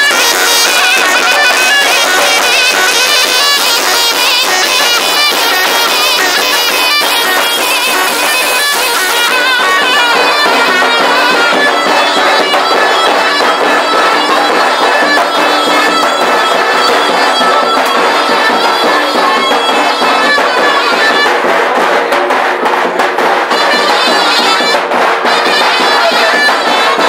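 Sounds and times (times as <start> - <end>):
drum beating: 0.0 - 27.0
reedy pipe melody: 0.0 - 27.0.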